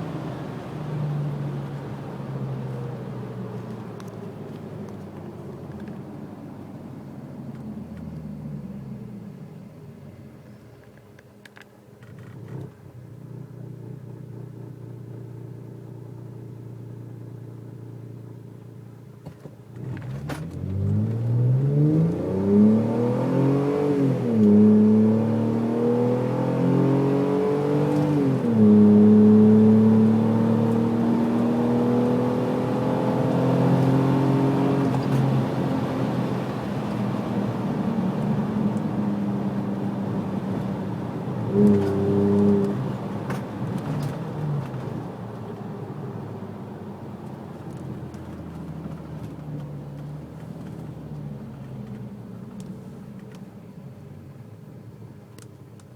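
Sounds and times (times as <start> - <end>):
van engine idling and accelerating: 0.0 - 55.9.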